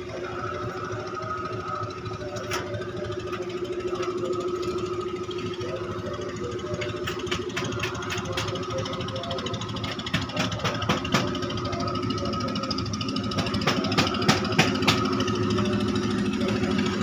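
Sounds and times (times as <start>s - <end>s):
boat diesel engine chugging: 0.0s - 17.0s
held hum: 0.0s - 17.0s.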